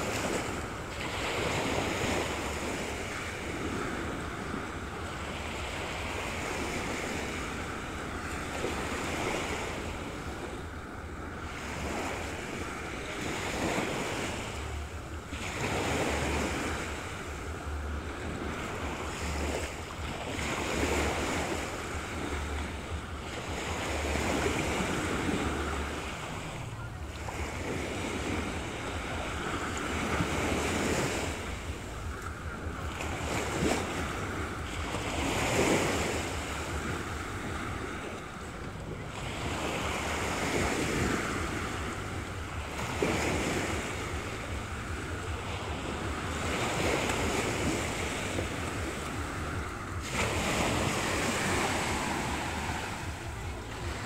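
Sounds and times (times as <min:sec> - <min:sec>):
waves washing onto shore: 0:00.0 - 0:54.0
wind rumble on microphone: 0:00.0 - 0:54.0.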